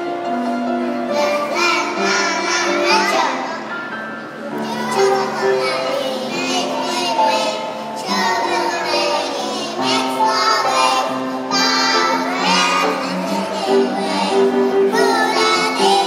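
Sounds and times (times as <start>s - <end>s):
instrumental accompaniment: 0.0s - 16.0s
children singing: 1.0s - 3.8s, 4.4s - 16.0s.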